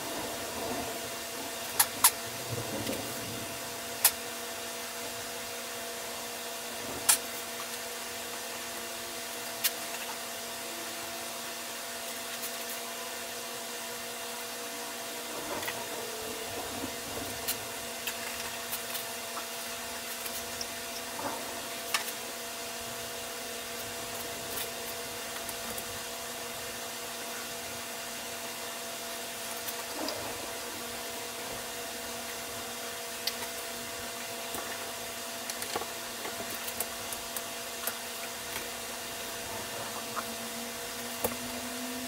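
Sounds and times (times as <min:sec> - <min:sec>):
machine hum and hiss: 0:00.0 - 0:42.0.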